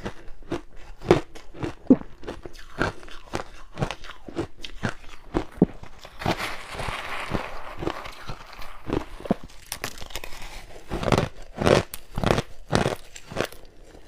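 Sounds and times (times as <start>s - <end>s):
ice crunching in mouth: 0.0s - 14.0s.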